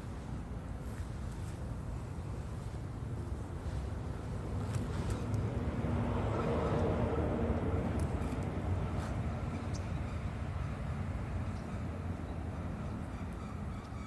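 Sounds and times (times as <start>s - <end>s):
low rumble of outdoor ambience: 0.0s - 14.0s.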